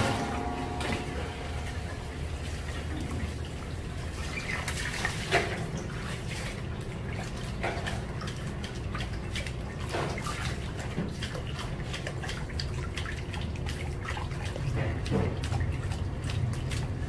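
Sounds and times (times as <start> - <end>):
steady low hum: 0.0 - 17.0
water sloshing and dripping: 0.0 - 17.0.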